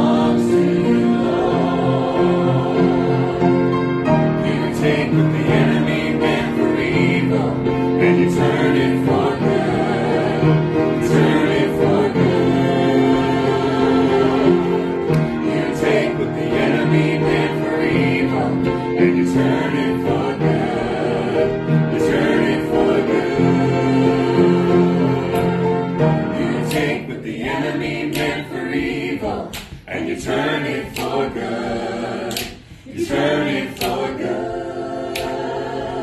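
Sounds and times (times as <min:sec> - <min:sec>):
group singing in harmony: 0:00.0 - 0:36.0.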